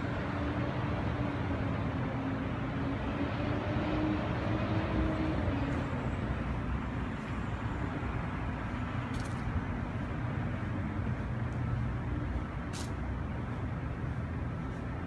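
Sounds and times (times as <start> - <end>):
city traffic rumble: 0.0 - 15.0
faint engine hum: 0.0 - 15.0.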